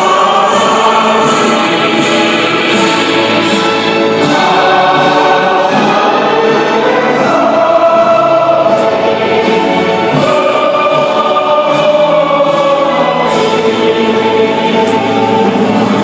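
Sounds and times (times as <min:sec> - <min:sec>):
violins playing: 0:00.0 - 0:16.0
voices singing long notes: 0:00.0 - 0:16.0.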